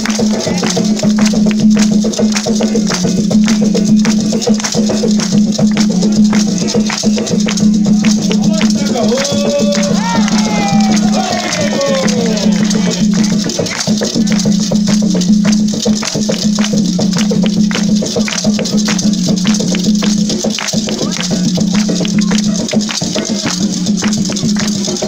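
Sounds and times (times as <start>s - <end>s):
shaken rattles: 0.0s - 25.0s
struck percussion beat: 0.0s - 25.0s.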